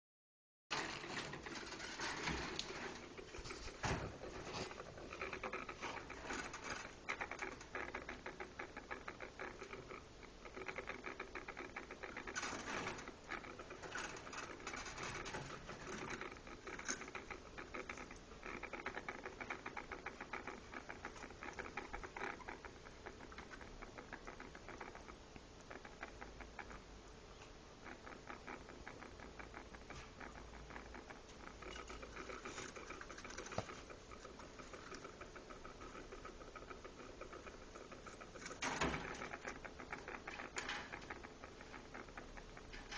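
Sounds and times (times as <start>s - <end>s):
small animal chattering clicks: 4.8s - 42.9s.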